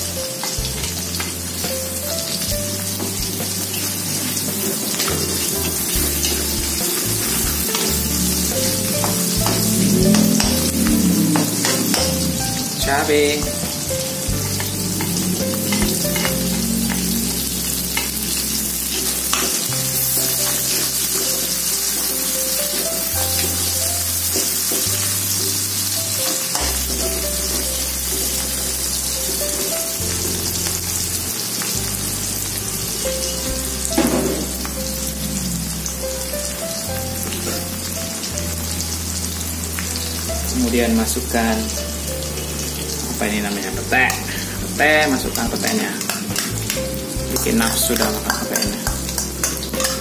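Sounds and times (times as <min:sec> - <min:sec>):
metal spatula scraping wok: 0:00.0 - 0:32.4, 0:41.4 - 0:50.0
vegetables sizzling in hot oil: 0:00.0 - 0:50.0.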